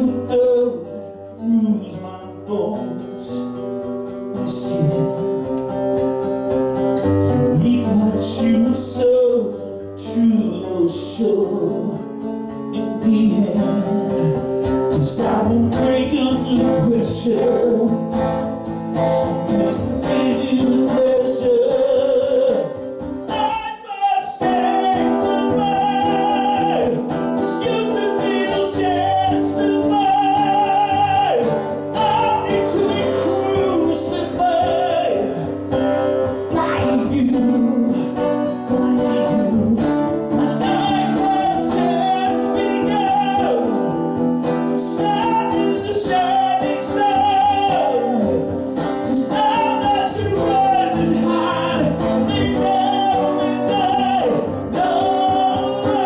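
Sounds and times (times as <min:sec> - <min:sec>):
man singing with vibrato: 0:00.0 - 0:56.0
strummed guitar: 0:00.0 - 0:56.0.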